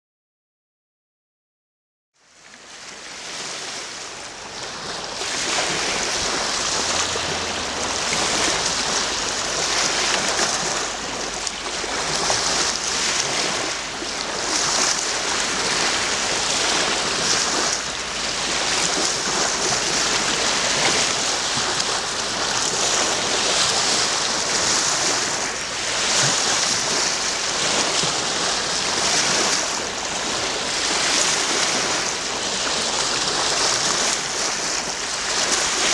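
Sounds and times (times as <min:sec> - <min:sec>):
waves washing onto pebble beach: 0:02.5 - 0:35.9.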